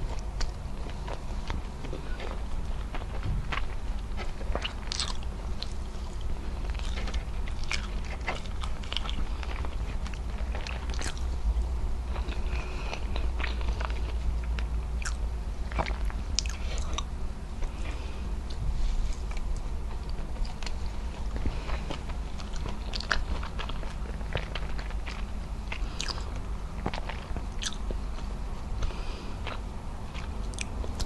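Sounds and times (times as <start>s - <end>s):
wet chewing clicks: 0.0s - 11.4s, 12.1s - 18.6s, 19.2s - 31.0s.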